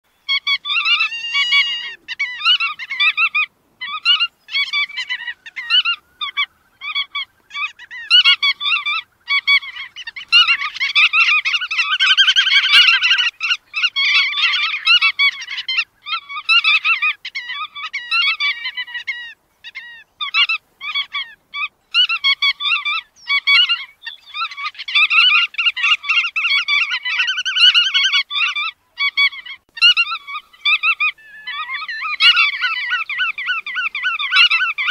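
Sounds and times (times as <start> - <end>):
birds calling rapidly: 0.1 - 34.9.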